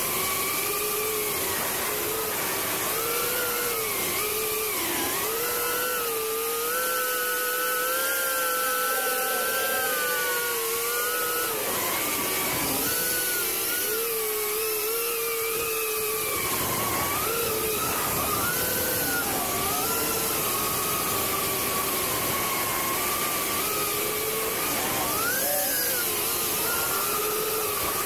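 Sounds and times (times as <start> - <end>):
drone motors and propellers whining: 0.0 - 28.0.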